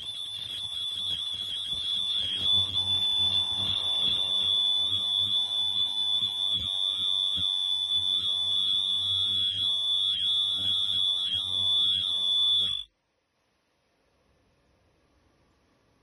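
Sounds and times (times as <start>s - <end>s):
high-pitched machine tone: 0.0s - 12.9s.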